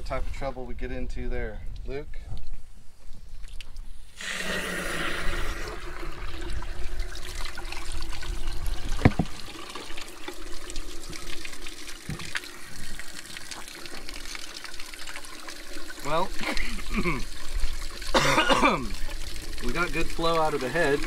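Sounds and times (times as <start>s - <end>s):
water from hose rushing and pouring: 3.4s - 21.0s.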